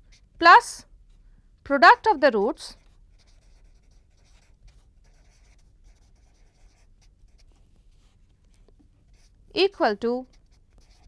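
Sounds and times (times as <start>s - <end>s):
marker pen scratching on paper: 0.0s - 0.4s, 1.9s - 11.0s.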